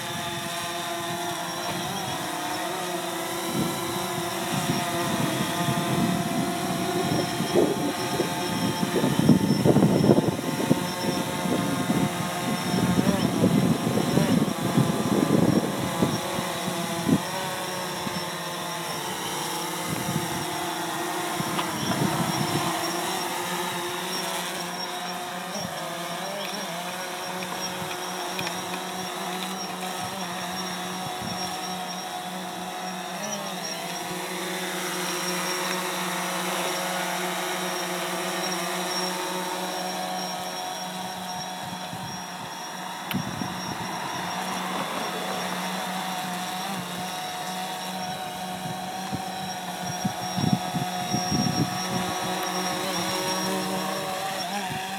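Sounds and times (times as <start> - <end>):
drone propellers buzzing: 0.0 - 54.9.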